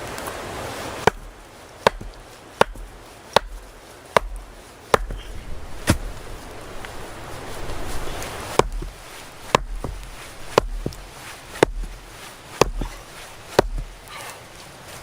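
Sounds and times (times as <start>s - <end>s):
hand tool striking wood: 1.0s - 7.0s, 7.9s - 15.0s.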